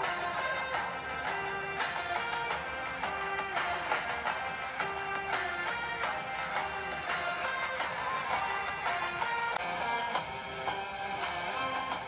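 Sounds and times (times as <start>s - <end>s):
plucked string music from phone speakers: 0.0s - 12.0s.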